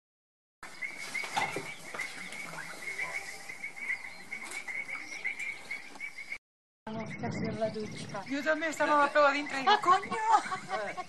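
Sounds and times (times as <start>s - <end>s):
frogs trilling: 0.6s - 11.0s.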